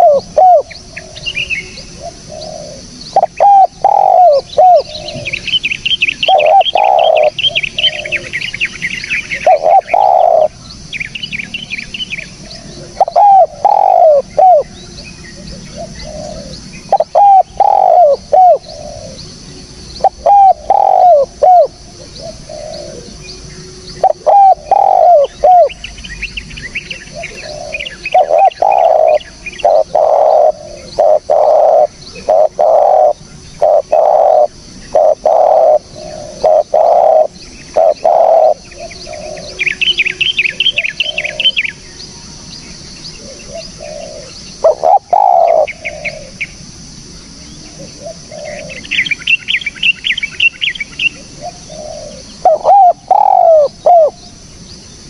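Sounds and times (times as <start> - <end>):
dove cooing: 0.0 - 10.7, 11.5 - 19.3, 20.0 - 25.9, 26.8 - 41.8, 43.1 - 46.6, 47.7 - 49.6, 50.6 - 54.3
small birds chirping trills: 0.0 - 55.0.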